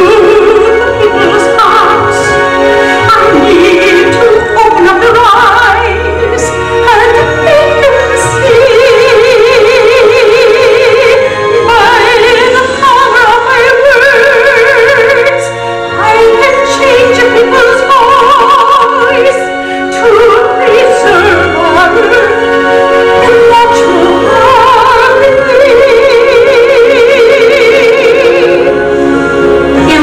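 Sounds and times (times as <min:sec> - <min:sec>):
operatic singing: 0:00.0 - 0:30.0.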